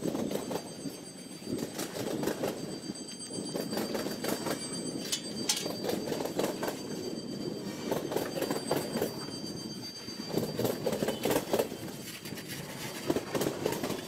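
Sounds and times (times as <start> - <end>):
steady high squeal: 0.0 - 14.0
train rattling and clattering: 0.0 - 14.0.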